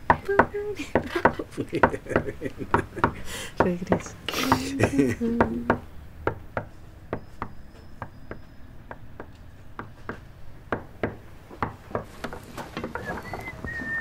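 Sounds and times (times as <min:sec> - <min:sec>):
sharp knocks: 0:00.0 - 0:04.2, 0:04.8 - 0:14.0.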